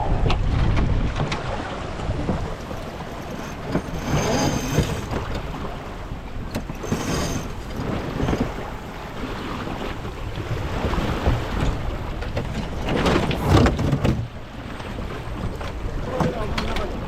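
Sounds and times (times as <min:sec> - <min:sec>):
water splashing along hull: 0:00.0 - 0:17.0
wind buffeting microphone: 0:00.0 - 0:17.0.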